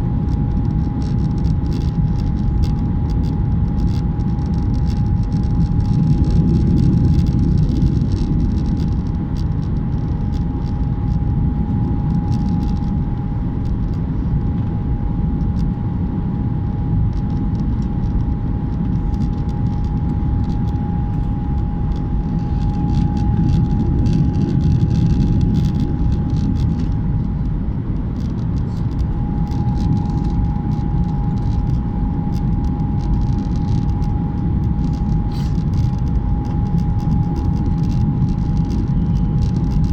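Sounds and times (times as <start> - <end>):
airliner engine rumble: 0.0 - 39.9
constant whine: 0.0 - 39.9.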